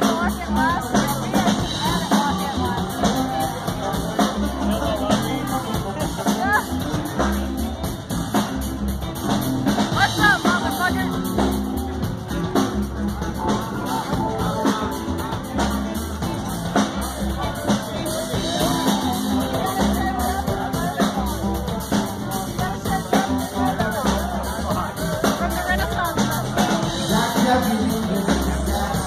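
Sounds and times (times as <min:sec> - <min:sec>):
drum kit beat: 0:00.0 - 0:29.0
upright bass: 0:00.0 - 0:29.0.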